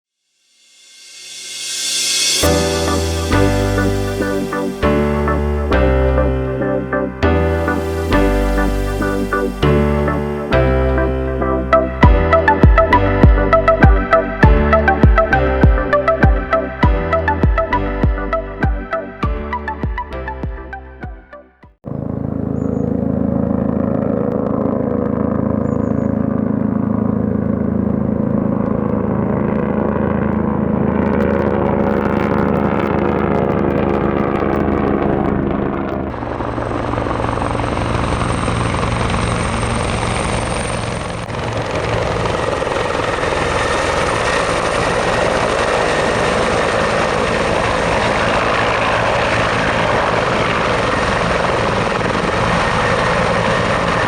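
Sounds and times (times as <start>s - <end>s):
high turbine whine: 0.5s - 20.6s, 21.9s - 54.0s
helicopter running close by: 2.1s - 17.7s, 21.8s - 54.0s.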